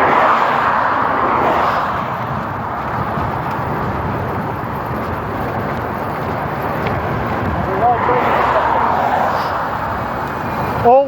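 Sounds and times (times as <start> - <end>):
road noise: 0.0 - 11.0
rushing wind: 0.0 - 11.0.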